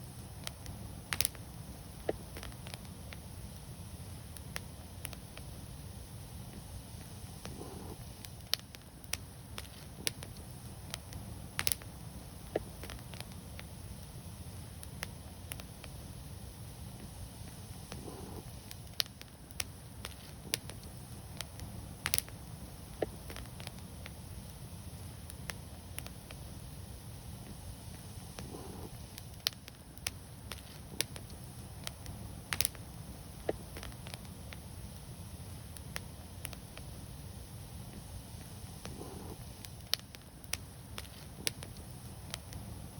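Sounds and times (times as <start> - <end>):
low steady rumble: 0.0 - 42.9
wood fire crackling: 0.0 - 42.9.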